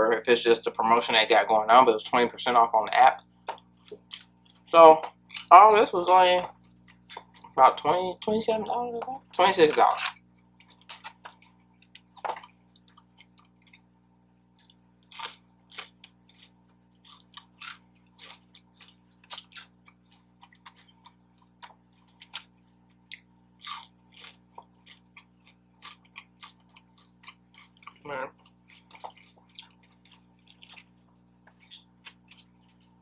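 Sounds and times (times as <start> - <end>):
person chewing food: 3.2 - 5.6, 6.5 - 7.6, 10.0 - 33.0.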